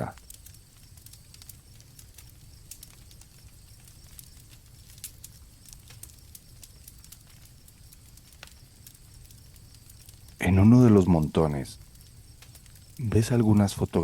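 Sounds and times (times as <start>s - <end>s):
campfire crackling and popping: 0.0s - 14.0s
crickets trilling: 0.0s - 14.0s.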